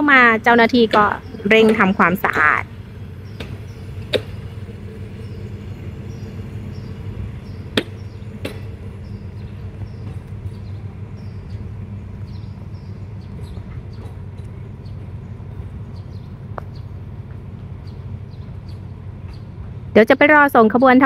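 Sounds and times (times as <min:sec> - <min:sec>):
wheels clacking over rail joint: 0:00.0 - 0:19.8
train coaches rumbling: 0:00.0 - 0:21.0.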